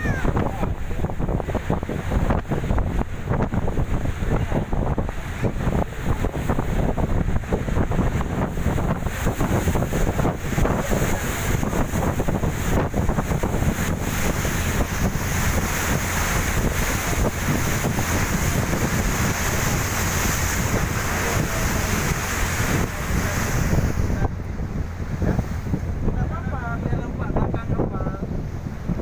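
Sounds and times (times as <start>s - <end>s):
boat engine rumble: 0.0s - 29.0s
rushing water: 0.0s - 29.0s
wind buffeting microphone: 0.0s - 29.0s.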